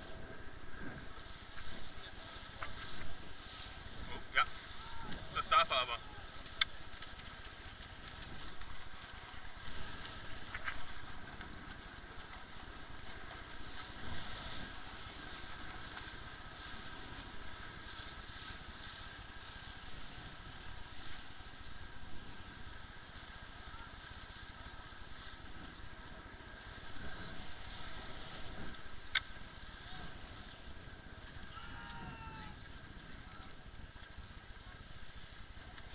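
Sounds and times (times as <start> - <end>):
motorboat engine running: 0.0 - 31.5
water and wind hiss: 0.0 - 35.9.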